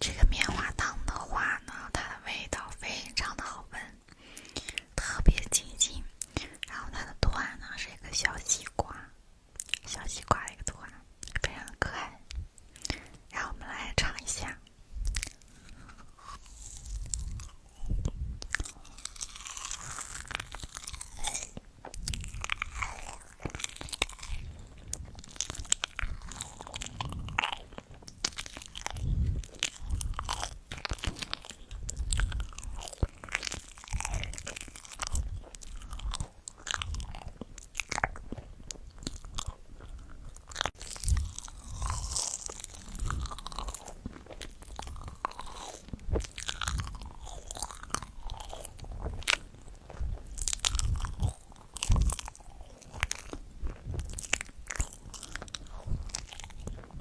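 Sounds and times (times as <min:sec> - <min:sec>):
crunchy chewing of food: 0:08.2 - 0:57.0.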